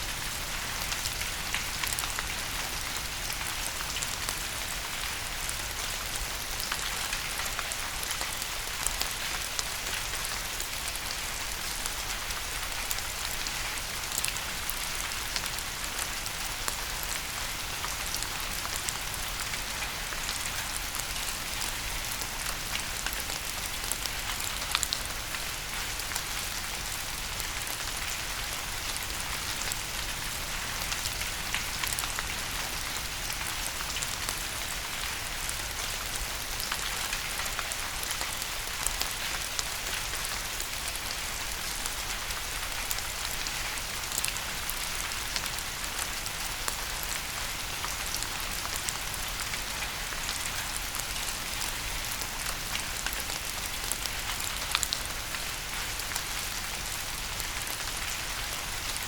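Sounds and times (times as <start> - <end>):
steady rain with ticking drops: 0.0 - 59.0.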